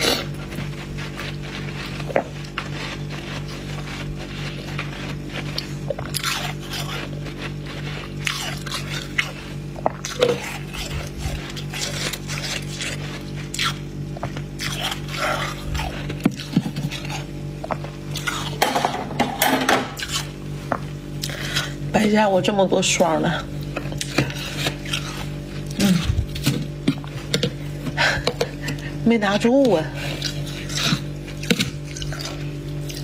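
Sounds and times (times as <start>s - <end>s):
frost being scraped: 0.0s - 20.7s, 21.3s - 33.0s
steady low hum: 0.0s - 33.0s.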